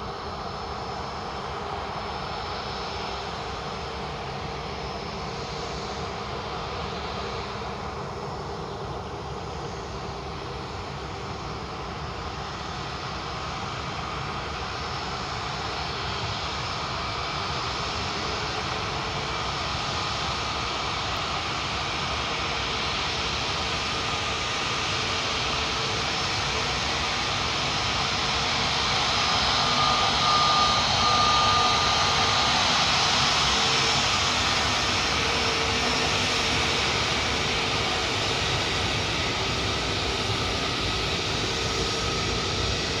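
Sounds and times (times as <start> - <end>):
jet airliner engines running: 0.0 - 43.0.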